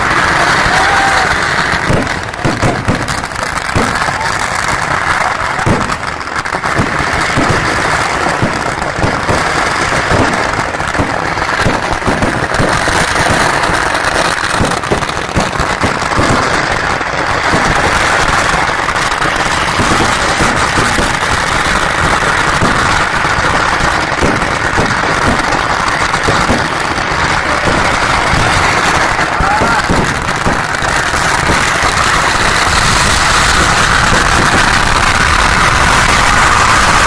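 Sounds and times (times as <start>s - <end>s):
firecracker bangs crackling: 0.0s - 37.0s.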